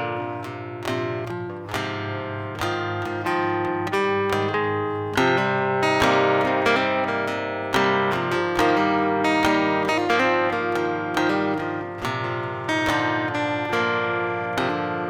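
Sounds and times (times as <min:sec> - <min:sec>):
acoustic guitar picking and strumming: 0:00.0 - 0:15.0.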